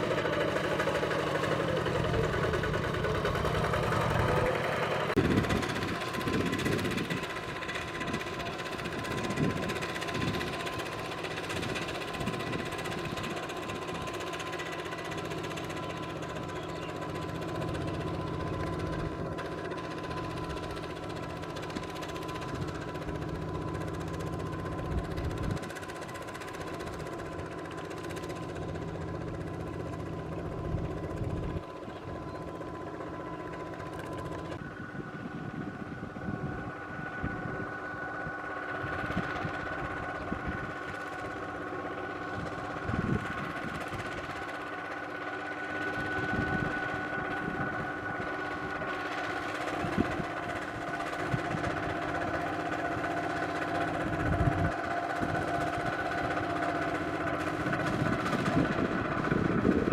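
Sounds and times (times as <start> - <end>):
high mechanical whine: 0.0 - 59.9
power tiller running: 0.0 - 59.9.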